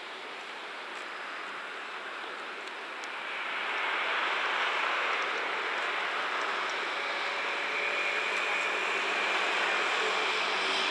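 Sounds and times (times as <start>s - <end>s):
freight train wheels on track: 0.0s - 10.9s.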